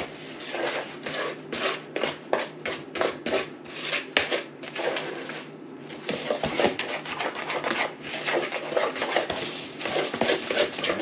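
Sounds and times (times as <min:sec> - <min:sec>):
utensil scraping mixing bowl: 0:00.0 - 0:11.0.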